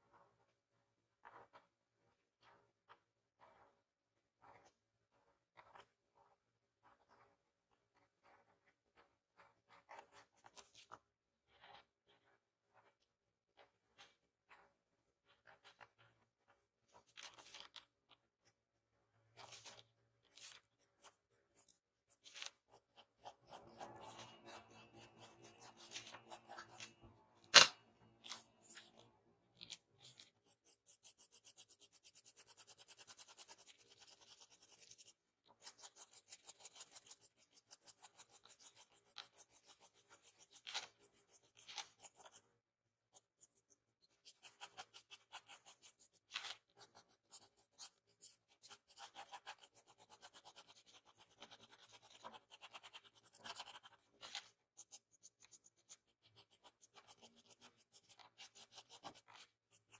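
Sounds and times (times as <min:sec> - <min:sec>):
pencil scratching on paper: 0:00.1 - 0:59.9.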